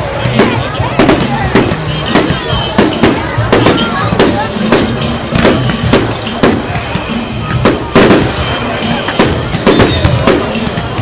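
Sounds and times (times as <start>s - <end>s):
firework bangs: 0.1s - 11.0s.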